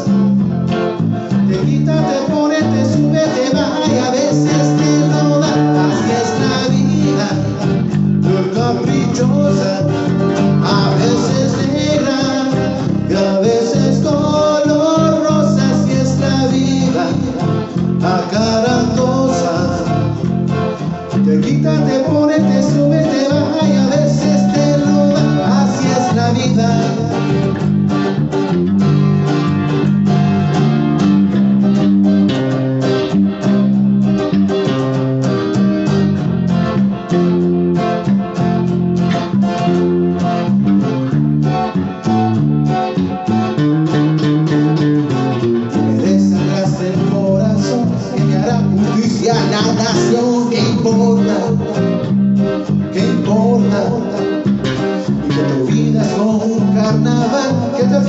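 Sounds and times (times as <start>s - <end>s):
bass line: 0.0s - 58.0s
plucked guitar notes: 0.0s - 58.0s.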